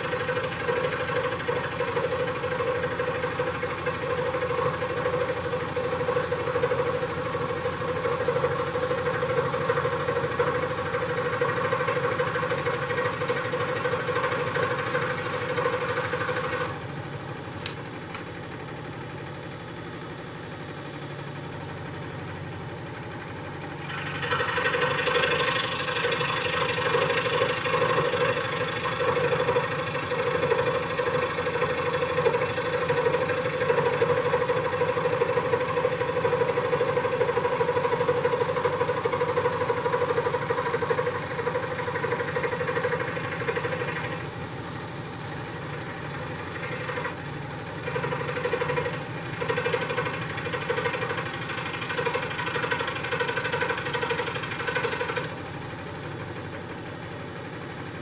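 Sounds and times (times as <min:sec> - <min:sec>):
jigsaw cutting wood: 0:00.0 - 0:16.8, 0:23.8 - 0:56.5.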